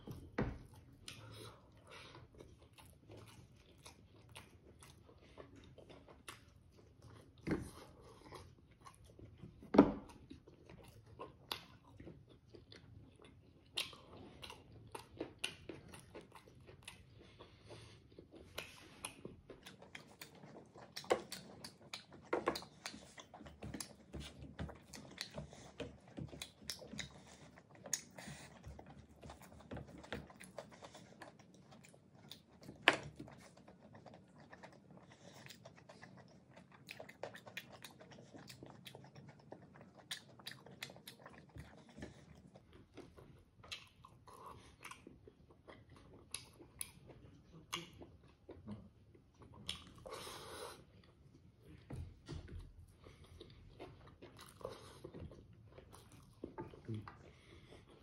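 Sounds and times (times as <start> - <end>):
person chewing: 0.0 - 58.0.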